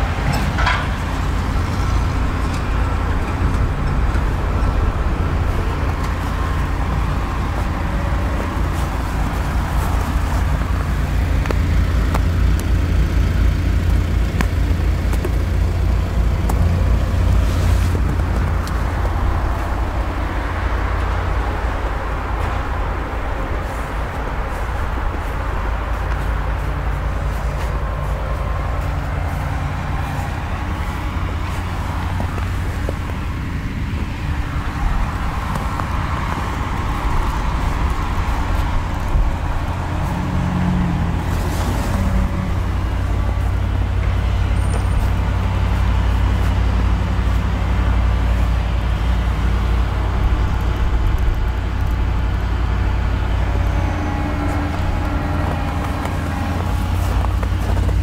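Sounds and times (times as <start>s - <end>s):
diesel van engine idling: 0.0s - 58.0s.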